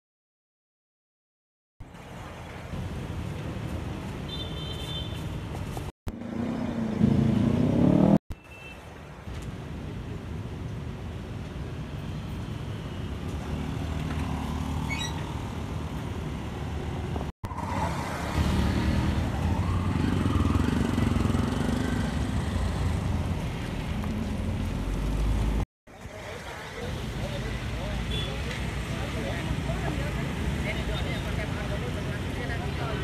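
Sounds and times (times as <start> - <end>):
cars and motorbikes passing: 1.9 - 8.2, 11.6 - 33.0.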